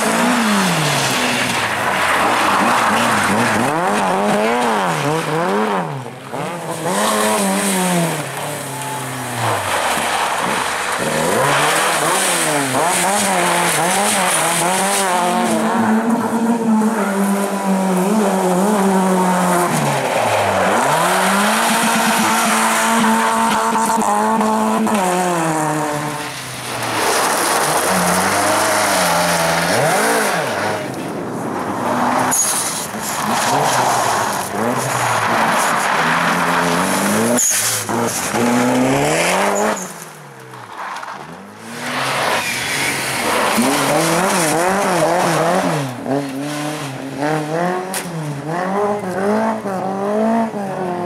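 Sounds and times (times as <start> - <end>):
tyres skidding on gravel: 0.0 - 49.4
rally car engine revving: 0.0 - 51.0.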